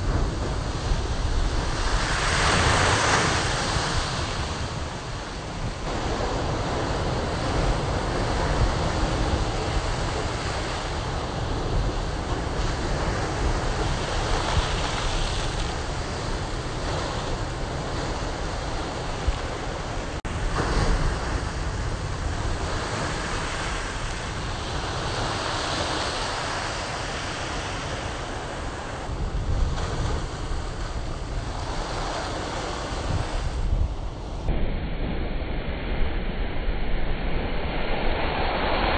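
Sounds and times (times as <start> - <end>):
ocean surf crashing on rocks: 0.0 - 34.5
wind buffeting microphone: 0.0 - 38.9.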